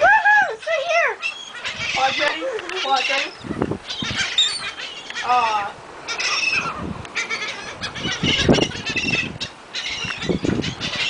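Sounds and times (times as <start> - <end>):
seagulls calling: 0.0 - 11.0.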